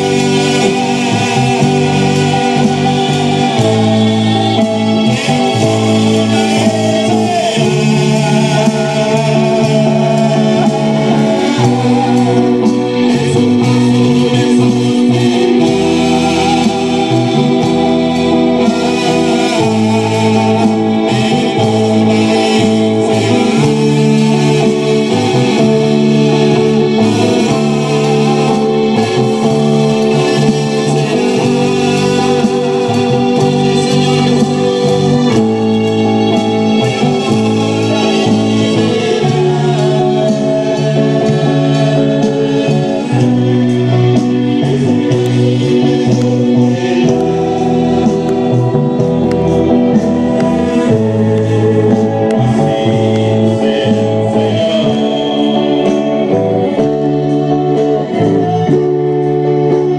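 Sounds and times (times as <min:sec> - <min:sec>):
bass line: 0:00.0 - 0:59.9
electric guitar chords: 0:00.0 - 0:59.9
keyboard chords: 0:00.0 - 0:59.9
voices singing: 0:00.0 - 0:59.9.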